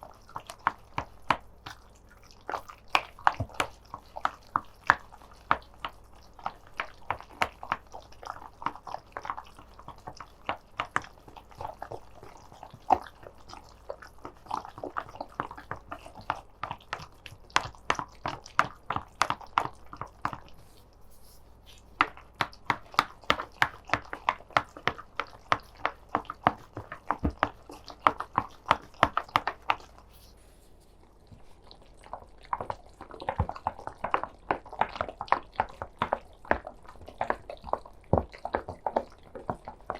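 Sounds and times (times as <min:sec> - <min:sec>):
wet squelching of mixture: 0:00.0 - 0:39.9.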